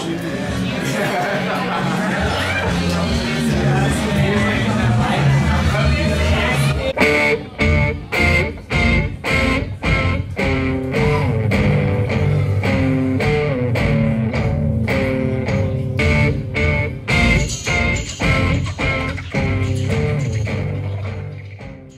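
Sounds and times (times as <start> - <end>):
bass guitar: 0.5 - 21.9
electric guitar strumming: 2.5 - 21.9.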